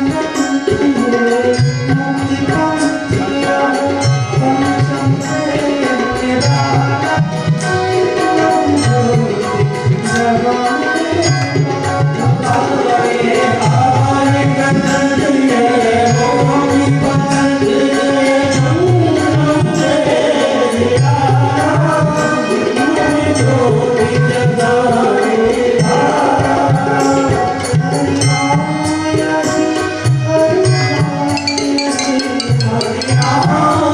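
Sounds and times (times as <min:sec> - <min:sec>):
devotional music: 0:00.0 - 0:33.9
tabla drumming: 0:00.0 - 0:33.9.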